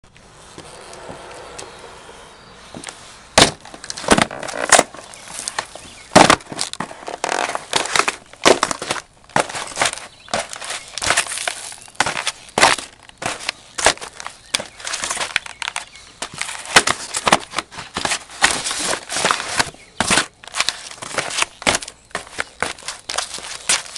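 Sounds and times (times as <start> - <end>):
cardboard crunching: 2.6 - 23.9
boots stomping on cardboard boxes: 2.7 - 15.4, 16.2 - 23.9.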